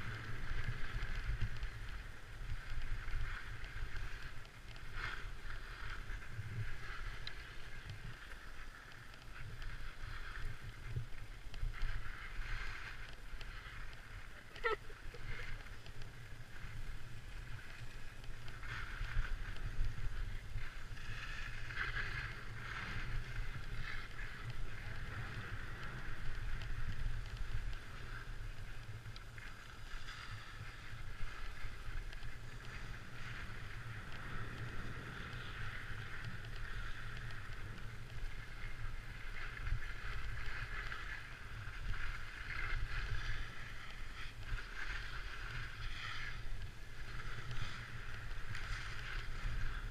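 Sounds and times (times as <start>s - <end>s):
skis scraping over packed snow: 0.0s - 49.9s
wind rumble on microphone: 0.0s - 49.9s.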